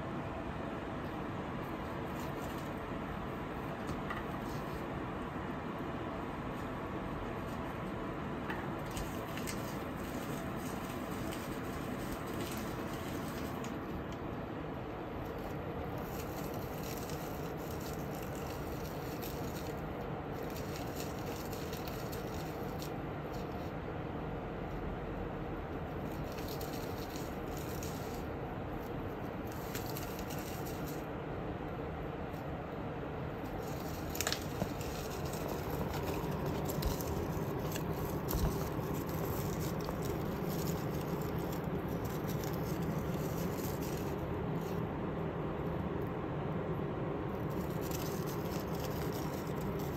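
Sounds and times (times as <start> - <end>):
steady background hiss: 0.0 - 49.9
steady background noise: 0.0 - 49.9
cat gnawing plastic: 1.1 - 5.5, 6.6 - 23.8, 25.7 - 31.1, 33.3 - 44.8, 47.3 - 49.9.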